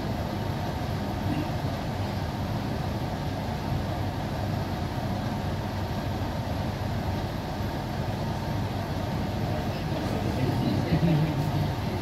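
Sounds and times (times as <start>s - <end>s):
steady rumbling noise: 0.0s - 12.0s.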